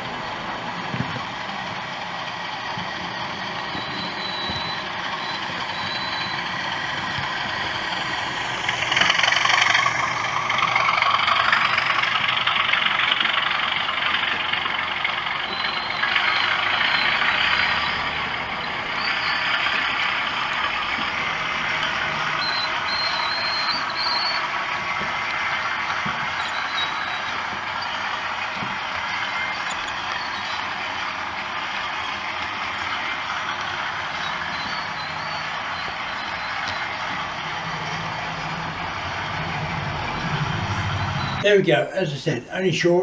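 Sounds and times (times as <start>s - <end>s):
model locomotive engine sounds: 0.0s - 42.4s
wheels rumbling on track: 0.0s - 43.0s.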